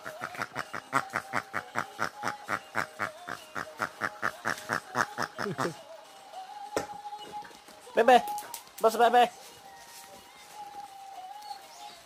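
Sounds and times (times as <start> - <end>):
faint background melody: 0.0 - 12.0.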